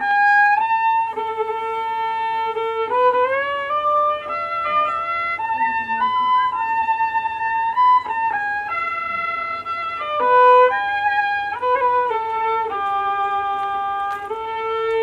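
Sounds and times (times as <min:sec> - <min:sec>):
slow fiddle melody: 0:00.0 - 0:15.0.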